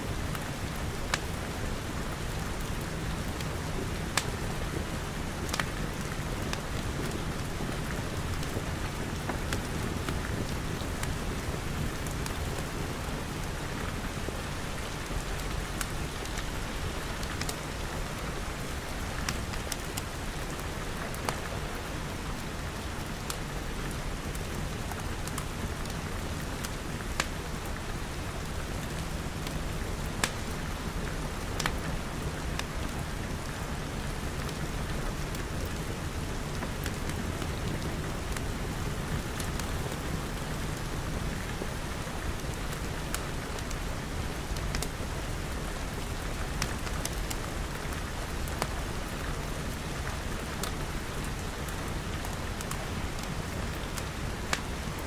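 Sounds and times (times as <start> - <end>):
rain on a glass roof: 0.0 - 55.0
wood fire crackling: 0.1 - 55.0.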